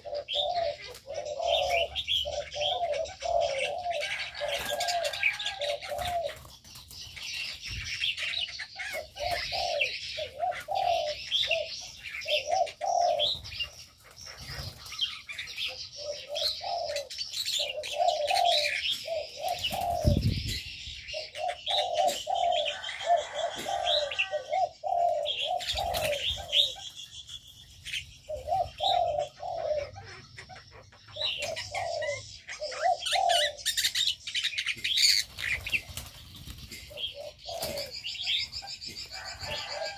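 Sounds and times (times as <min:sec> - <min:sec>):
birds chirping and twittering: 0:00.0 - 0:39.9
low cooing bird calls: 0:00.0 - 0:39.9.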